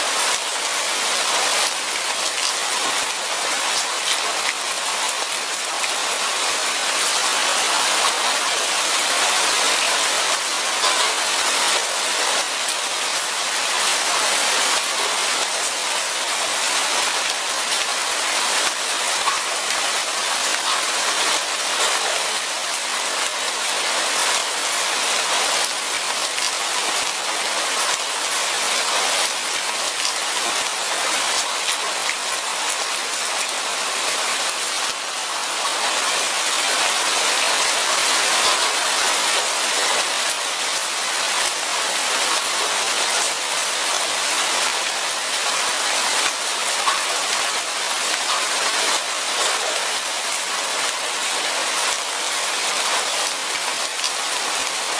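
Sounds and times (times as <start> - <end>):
light rain pattering on foliage: 0.0 - 54.9.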